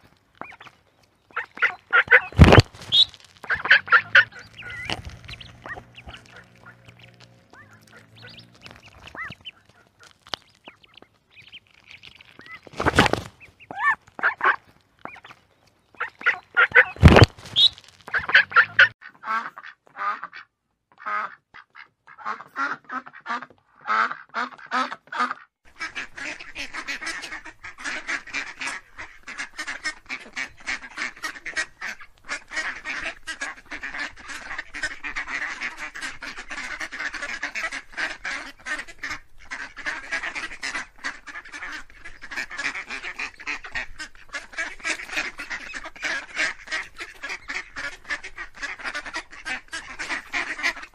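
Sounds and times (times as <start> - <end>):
geese honking: 0.0 - 20.4, 22.2 - 50.9
ducks quacking: 0.0 - 50.9.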